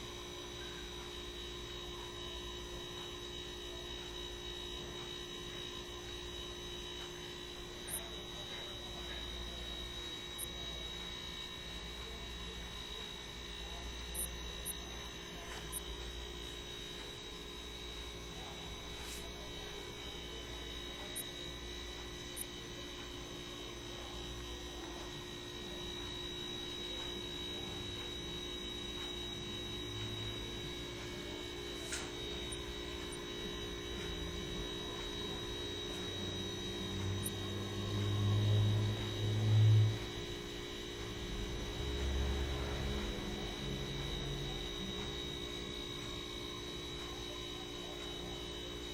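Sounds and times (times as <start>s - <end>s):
faint high whine: 0.0s - 48.9s
steady electrical hum: 0.0s - 48.9s.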